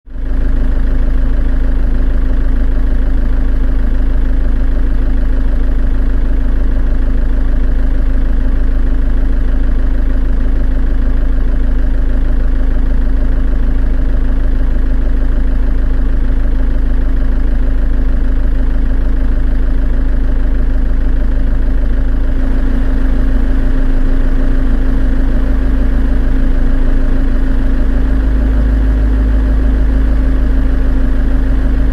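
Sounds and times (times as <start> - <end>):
engine idling: 0.0 - 31.9.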